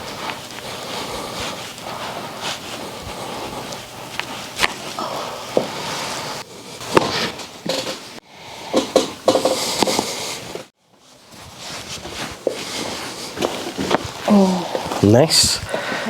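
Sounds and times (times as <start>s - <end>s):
body rustling on table: 0.0s - 8.2s, 9.3s - 15.0s.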